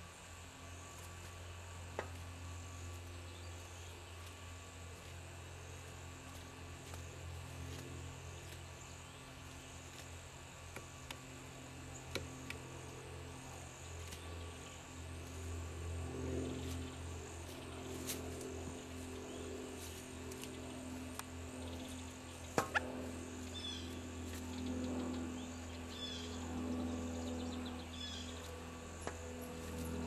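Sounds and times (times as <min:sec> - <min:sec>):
insects buzzing: 0:00.0 - 0:30.0
low steady hum: 0:00.0 - 0:30.0.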